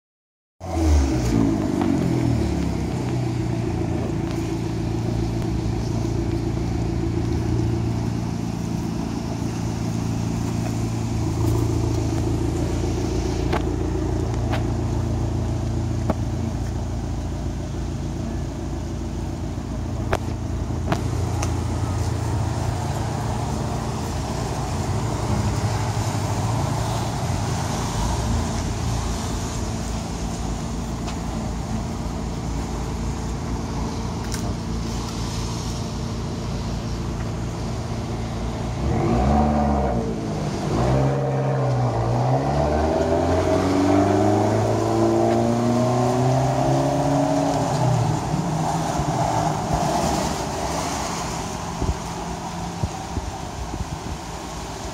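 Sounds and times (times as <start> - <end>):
car engine revving and idling: 0.6 - 54.9.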